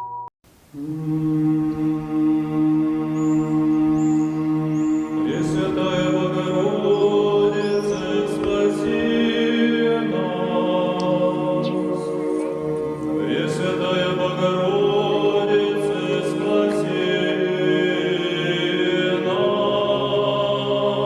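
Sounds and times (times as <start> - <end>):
group of voices chanting: 0.8 - 21.0.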